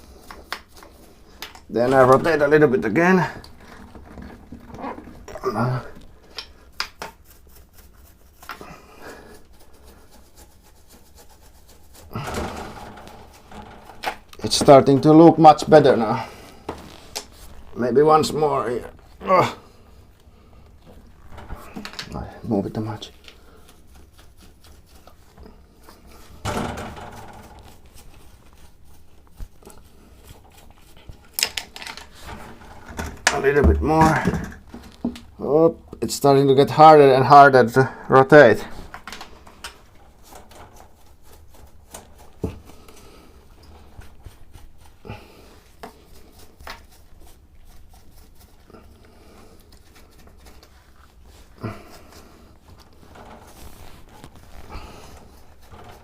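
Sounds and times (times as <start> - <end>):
rubbing on sewing machine: 0.0 - 56.0.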